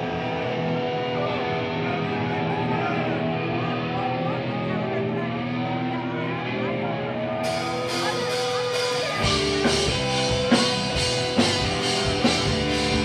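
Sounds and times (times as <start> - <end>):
distorted electric guitars bending notes: 0.0 - 13.0.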